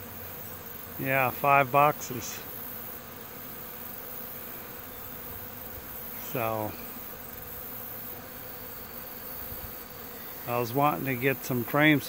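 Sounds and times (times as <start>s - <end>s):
honeybee colony humming: 0.0s - 12.0s.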